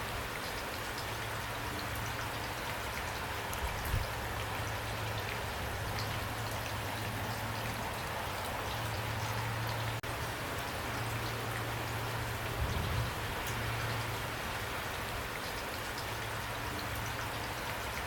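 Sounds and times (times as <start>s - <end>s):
raindrops ticking: 0.0s - 18.0s
steady rainfall: 0.0s - 18.0s.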